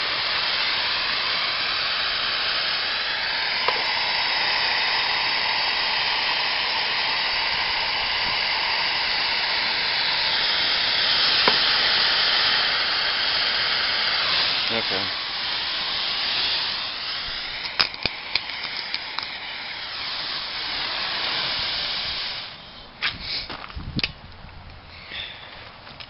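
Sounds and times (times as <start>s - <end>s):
fizzing hiss of bubbling water: 0.0s - 22.6s.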